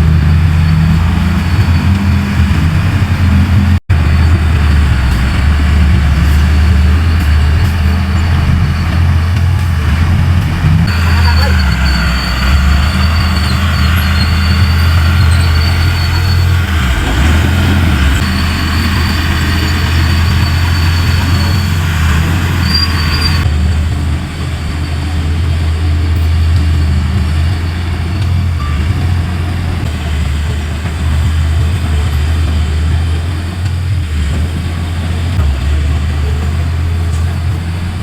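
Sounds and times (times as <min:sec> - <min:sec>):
heavy machinery diesel engine: 0:00.0 - 0:38.0.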